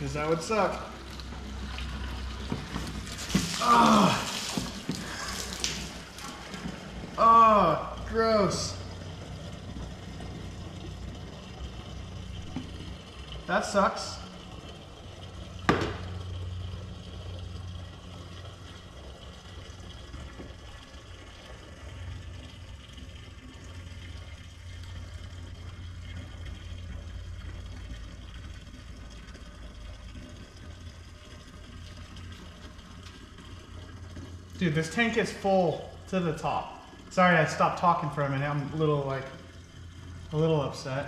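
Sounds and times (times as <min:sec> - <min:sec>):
fuel pouring into can: 0:00.0 - 0:41.0.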